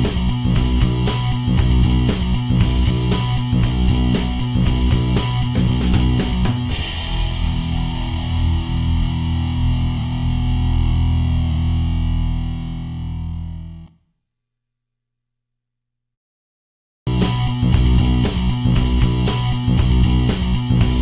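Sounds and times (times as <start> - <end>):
distorted electric guitar chords: 0.0 - 13.9, 17.1 - 21.0.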